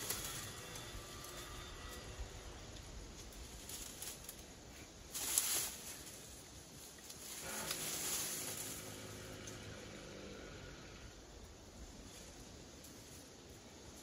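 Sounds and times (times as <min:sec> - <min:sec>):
leaves and branches rustling: 0:00.0 - 0:14.0.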